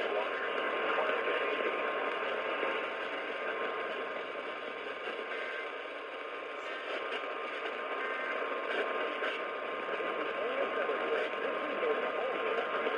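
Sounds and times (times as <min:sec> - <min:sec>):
radio static hiss: 0:00.0 - 0:12.9.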